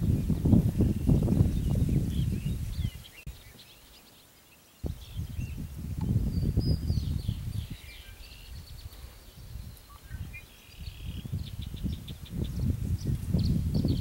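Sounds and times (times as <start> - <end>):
wind gusting over microphone: 0.0 - 3.5, 4.8 - 14.0
small birds chirping: 0.0 - 14.0.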